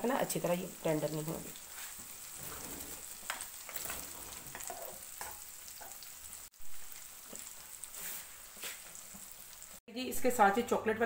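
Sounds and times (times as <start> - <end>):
chicken deep-frying in oil: 0.0 - 10.8.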